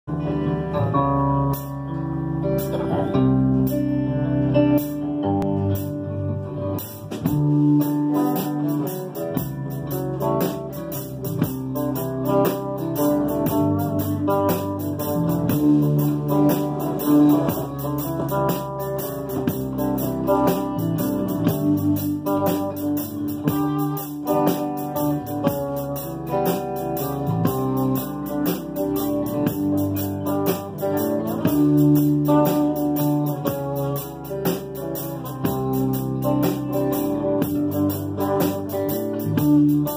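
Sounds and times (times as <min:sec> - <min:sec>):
bass guitar line: 0:00.0 - 0:39.9
strummed acoustic guitars: 0:00.2 - 0:39.9.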